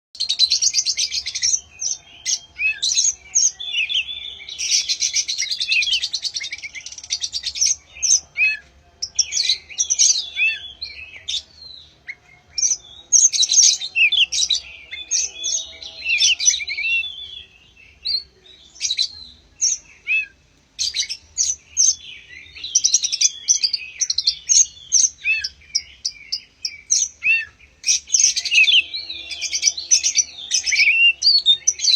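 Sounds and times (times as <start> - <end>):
magpie-robin singing: 0.2 - 31.9.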